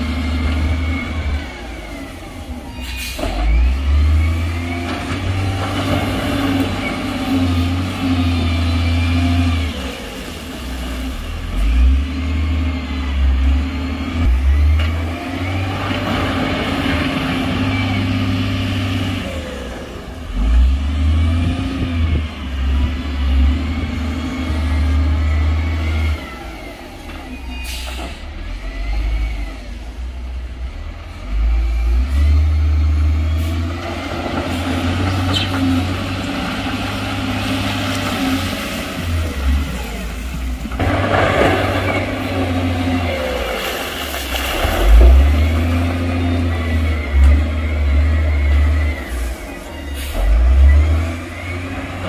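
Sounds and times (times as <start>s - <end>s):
diesel machinery revving: 0.0s - 52.0s.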